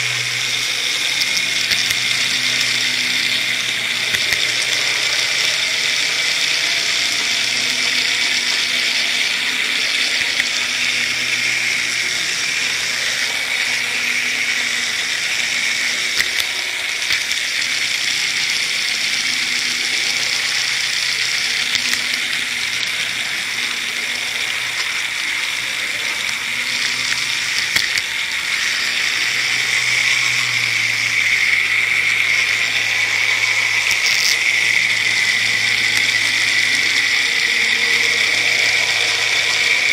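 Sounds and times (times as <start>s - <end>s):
model train motor whine: 0.0s - 39.9s.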